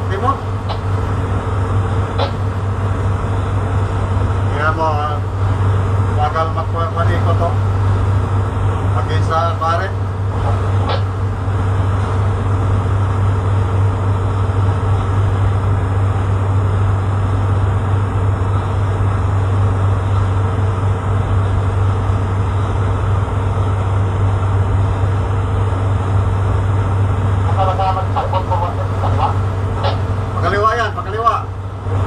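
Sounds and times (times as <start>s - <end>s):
boat diesel engine humming: 0.0s - 32.0s.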